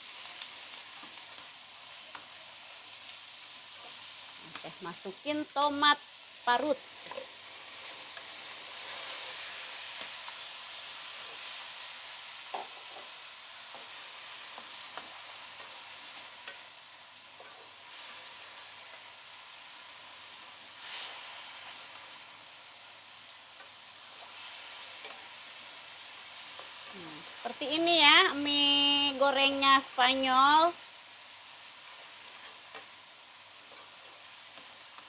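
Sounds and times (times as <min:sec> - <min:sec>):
food sizzling in a frying pan: 0:00.0 - 0:35.0.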